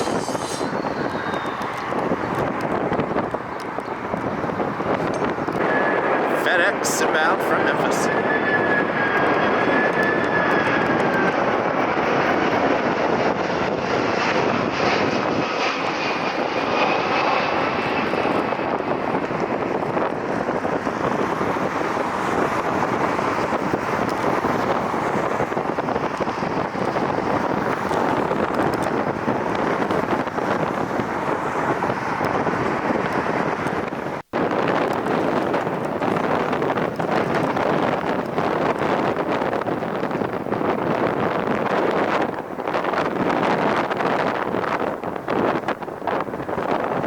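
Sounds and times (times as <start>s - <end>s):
jet engines rushing: 0.0s - 47.0s.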